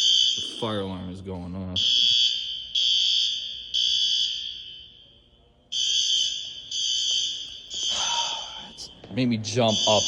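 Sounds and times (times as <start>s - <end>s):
fire alarm beeping: 0.0s - 10.0s.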